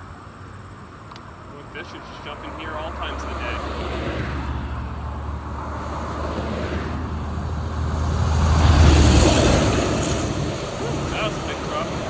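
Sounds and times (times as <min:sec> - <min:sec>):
car passing by: 0:02.1 - 0:12.0.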